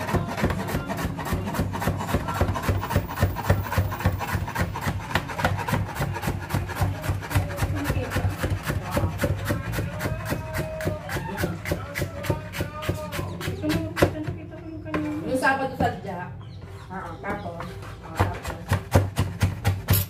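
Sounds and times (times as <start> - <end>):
cleaver chopping on plastic board: 0.0 - 14.4, 18.1 - 20.0.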